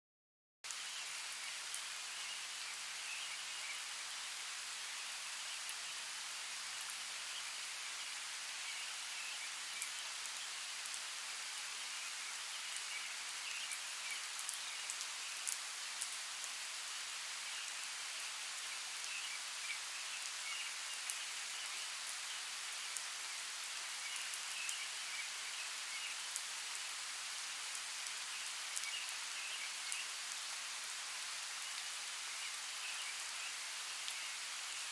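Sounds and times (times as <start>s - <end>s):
steady rain falling: 0.7s - 34.9s.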